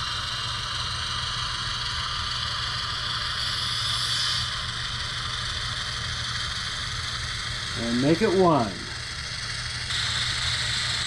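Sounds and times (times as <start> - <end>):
model locomotive whirring: 0.0 - 11.0.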